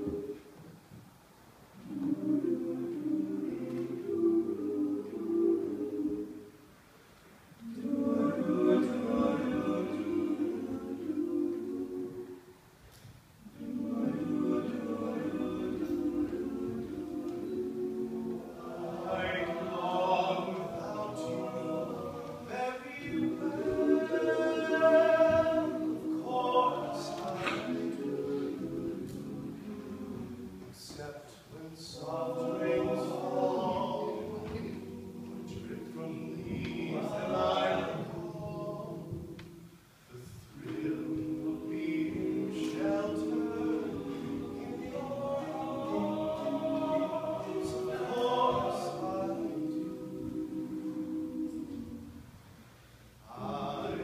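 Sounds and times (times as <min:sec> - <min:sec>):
male group singing in harmony: 0:00.0 - 0:00.4, 0:01.8 - 0:06.6, 0:07.6 - 0:12.6, 0:13.4 - 0:52.3, 0:53.2 - 0:54.0.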